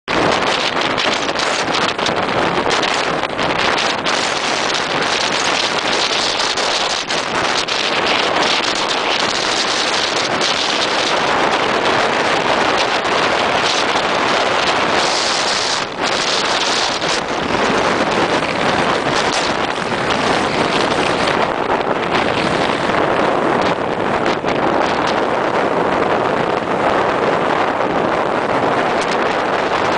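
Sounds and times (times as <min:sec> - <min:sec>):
storm wind on microphone: 0:00.0 - 0:29.9
surf breaking on shore: 0:00.1 - 0:29.9.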